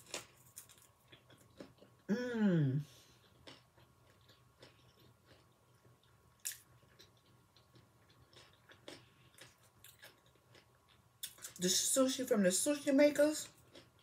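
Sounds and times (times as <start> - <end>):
chewing food: 0.0 - 2.1, 2.9 - 11.8, 13.4 - 14.0.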